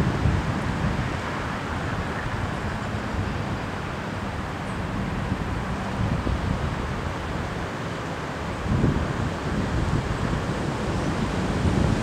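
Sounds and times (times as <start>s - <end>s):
wind buffeting microphone: 0.0s - 7.8s, 8.4s - 12.0s.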